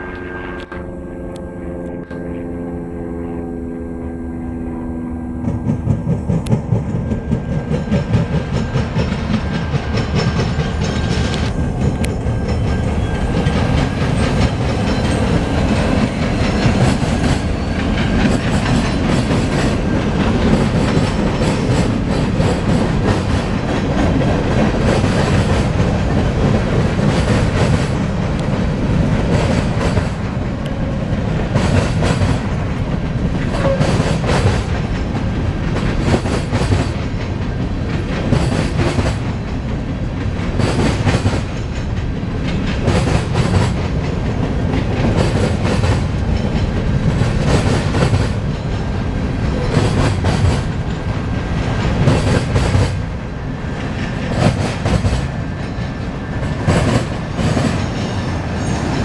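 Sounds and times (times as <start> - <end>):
freight train rumbling: 0.0 - 59.0
wheels clacking over rails: 5.4 - 59.0.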